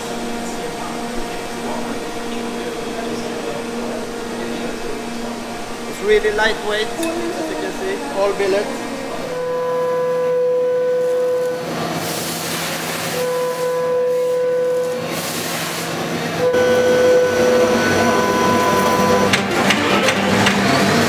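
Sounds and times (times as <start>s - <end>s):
milling cutter whine: 0.0s - 21.0s.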